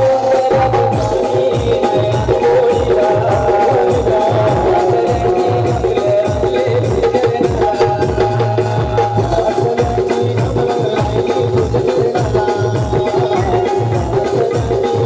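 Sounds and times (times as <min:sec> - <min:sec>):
band music with drum beat: 0:00.0 - 0:15.0.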